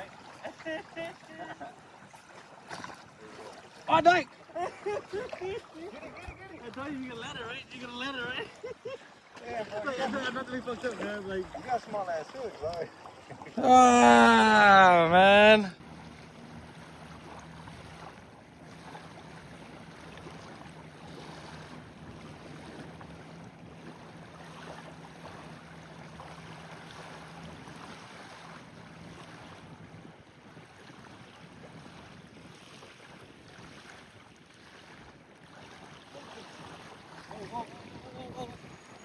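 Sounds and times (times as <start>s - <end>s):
water: 0.0s - 39.0s
wind: 0.0s - 39.0s.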